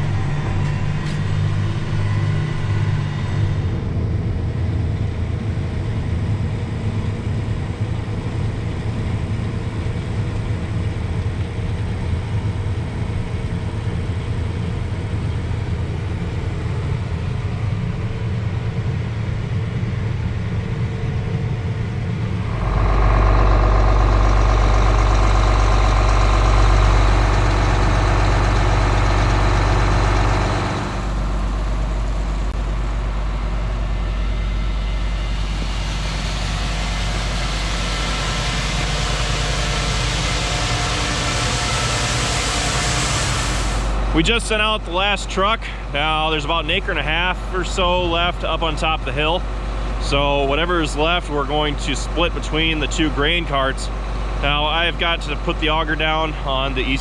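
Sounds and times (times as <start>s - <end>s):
fuller mechanical noise: 0.0s - 57.0s
heavy engine running: 0.0s - 57.0s.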